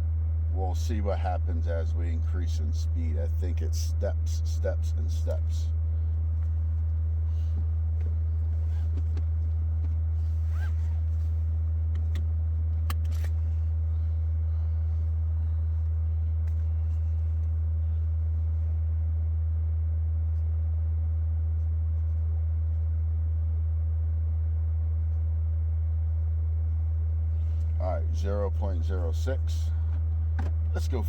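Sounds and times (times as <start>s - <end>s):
low sine test tone: 0.0s - 31.0s.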